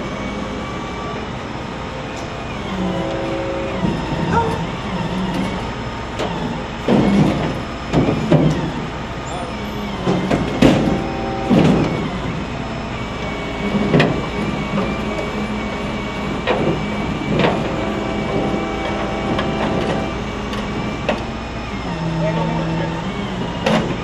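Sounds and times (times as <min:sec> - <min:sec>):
road traffic hum: 0:00.0 - 0:24.0
vehicles idling: 0:00.0 - 0:24.0.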